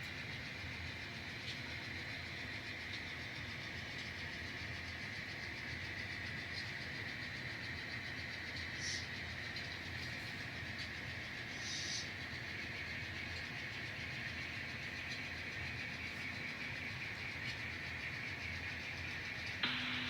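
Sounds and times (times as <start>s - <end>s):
model locomotive hum: 0.0s - 20.0s.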